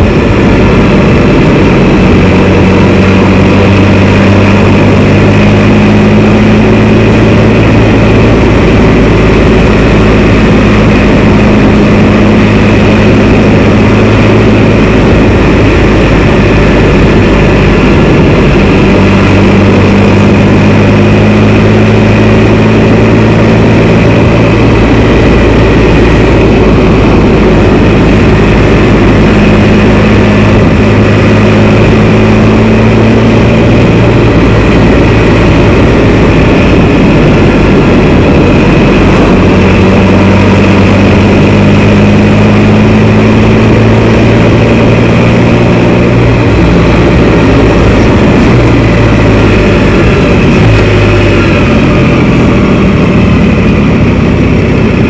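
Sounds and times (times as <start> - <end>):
motorcycle engine running: 0.0 - 55.0
rushing road noise: 0.0 - 55.0.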